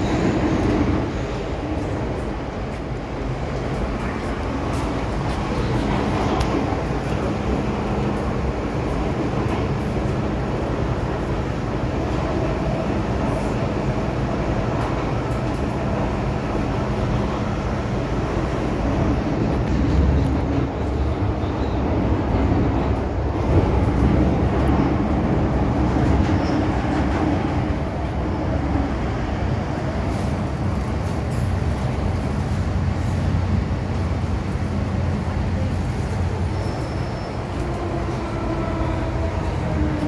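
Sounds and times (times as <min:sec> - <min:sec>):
train wheels rumbling: 0:00.0 - 0:40.0.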